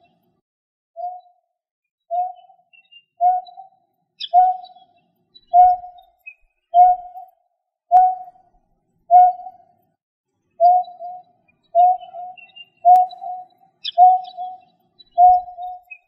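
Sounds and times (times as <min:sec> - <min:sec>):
faint high bird chirps: 0:00.0 - 0:00.4, 0:01.0 - 0:16.0.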